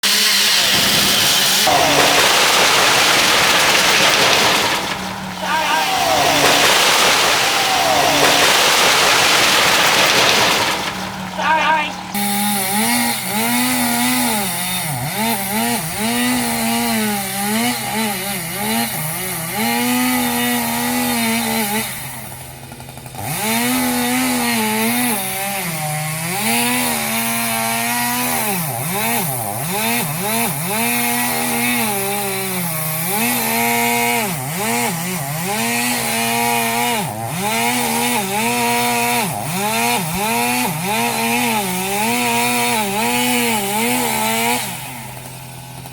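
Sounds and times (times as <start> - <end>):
chainsaw running at high revs: 0.0 - 45.9.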